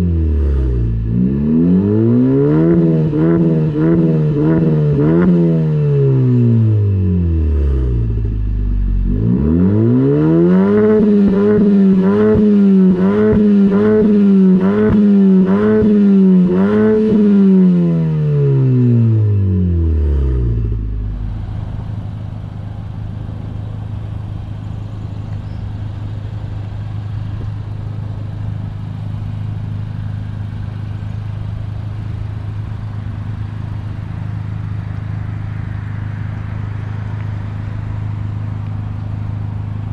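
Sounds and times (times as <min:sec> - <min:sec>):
car engine idling: 0:00.0 - 0:39.9
car engine revving: 0:00.0 - 0:39.9.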